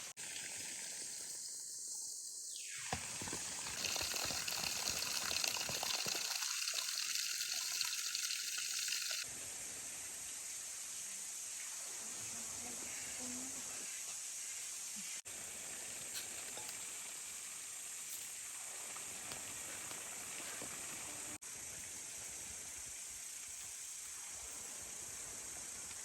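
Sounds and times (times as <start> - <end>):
steady high-pitched hiss: 0.0 - 26.0.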